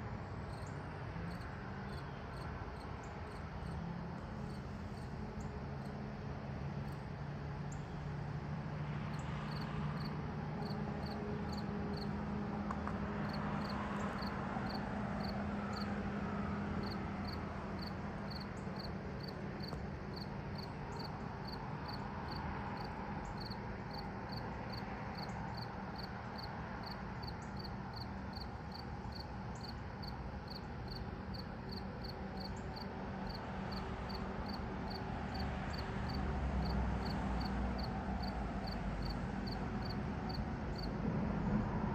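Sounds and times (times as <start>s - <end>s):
crickets chirping: 0.5s - 7.1s, 9.1s - 41.0s.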